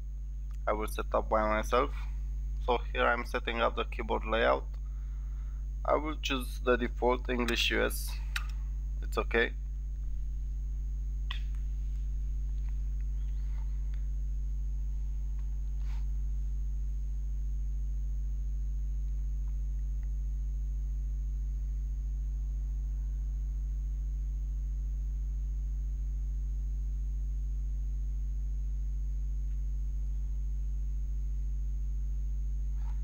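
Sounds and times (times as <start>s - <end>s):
electrical mains hum: 0.0s - 33.0s
faint high-pitched whine: 0.0s - 33.0s.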